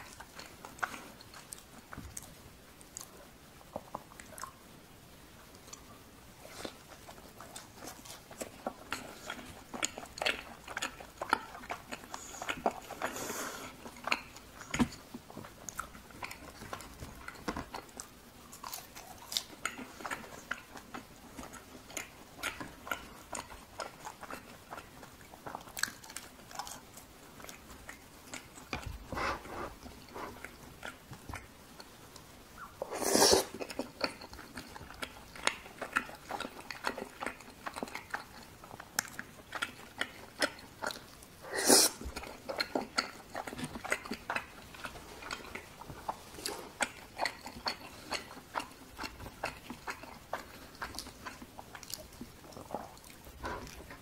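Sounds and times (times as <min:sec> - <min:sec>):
crisp chewing crunches: 0:05.5 - 0:54.0.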